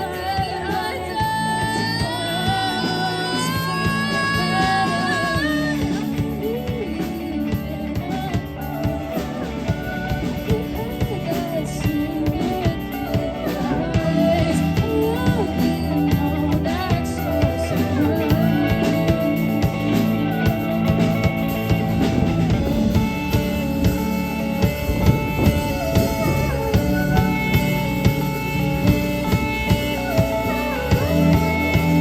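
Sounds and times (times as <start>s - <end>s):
drum kit: 0.0s - 32.0s
guitar: 0.0s - 32.0s
person singing: 0.0s - 32.0s.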